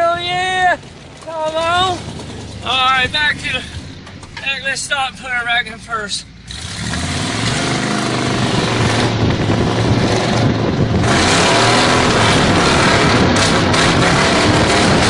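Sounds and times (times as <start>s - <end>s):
road and tyre noise: 0.0s - 15.0s
truck engine accelerating: 0.0s - 15.0s.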